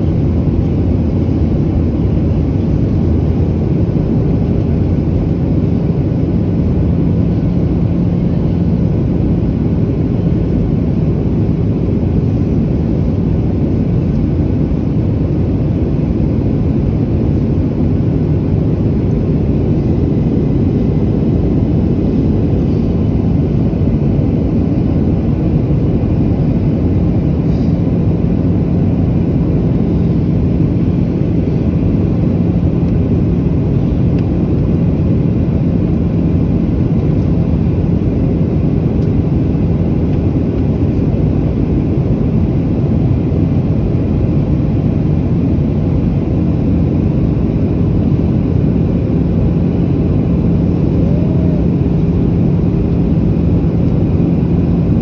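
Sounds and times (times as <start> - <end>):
airliner cabin rumble: 0.0 - 55.0
faint steady hum: 0.0 - 55.0.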